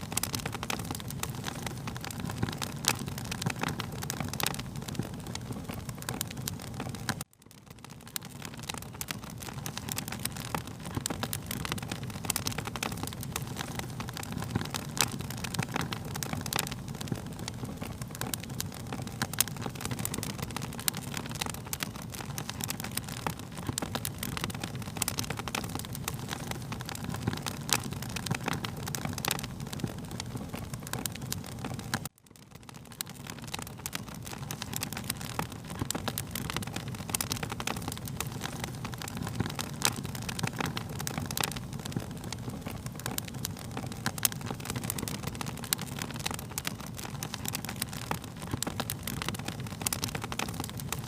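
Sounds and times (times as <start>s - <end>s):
low rumble of flames: 0.0s - 51.0s
wood fire crackling: 0.0s - 51.0s.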